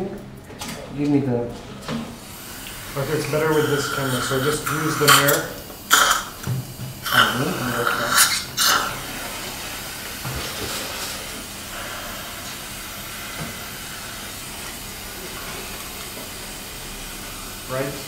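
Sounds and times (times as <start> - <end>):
air syringe hissing: 2.3 - 18.0.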